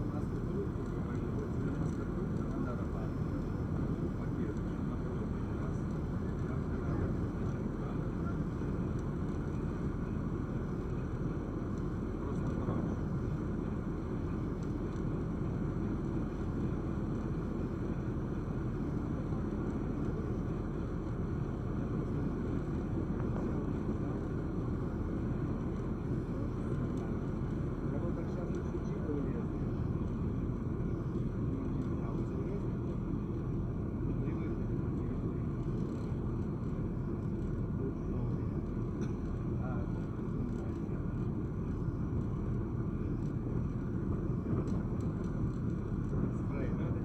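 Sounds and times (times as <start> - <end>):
ferry engine low drone: 0.0 - 47.0.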